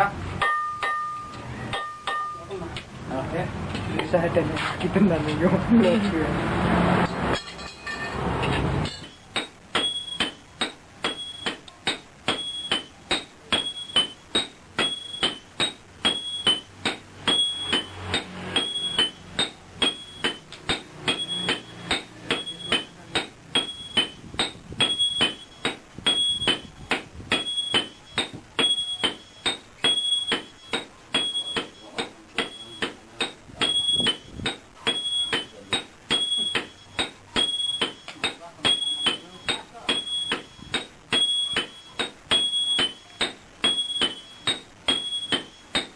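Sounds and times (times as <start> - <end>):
hammer on anvil ringing: 0.4 - 2.7, 8.8 - 45.9.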